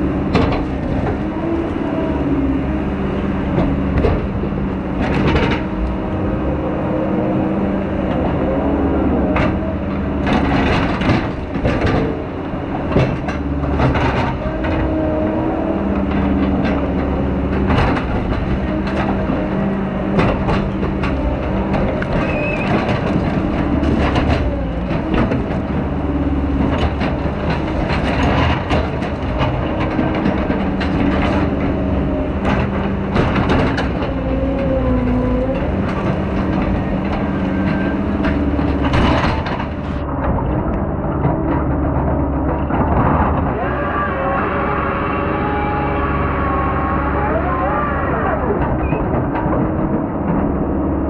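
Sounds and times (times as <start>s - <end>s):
diesel engine working: 0.0s - 51.0s.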